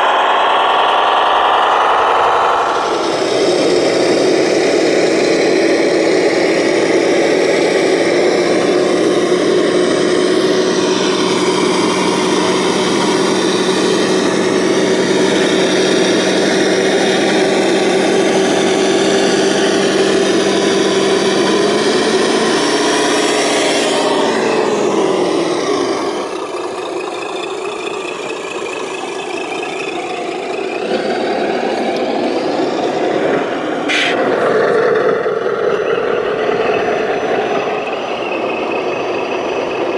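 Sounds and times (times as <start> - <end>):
model truck motor whine: 0.0 - 39.9.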